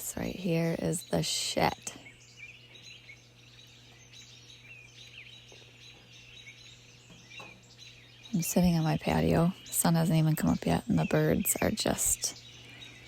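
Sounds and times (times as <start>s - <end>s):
low steady hum: 0.0s - 13.0s
songbirds chirping faintly: 0.0s - 13.0s.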